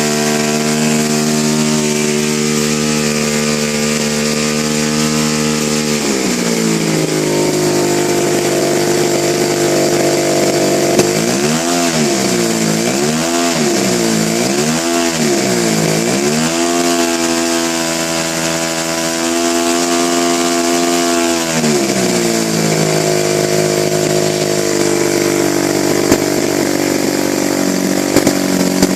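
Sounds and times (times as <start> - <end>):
engine revving: 0.0 - 28.9.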